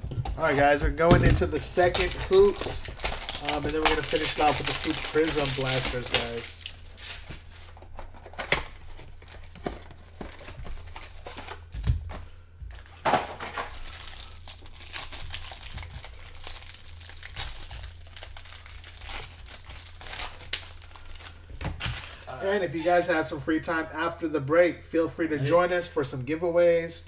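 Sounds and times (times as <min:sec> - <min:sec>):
packaging crinkling and tearing: 0:00.3 - 0:22.3.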